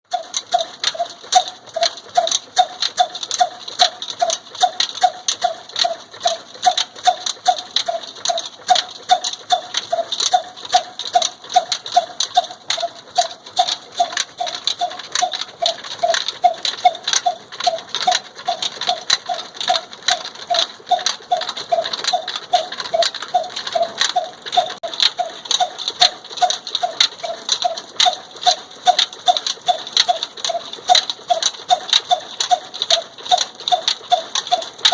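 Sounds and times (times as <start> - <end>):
diesel engine clacking: 0.0 - 34.9.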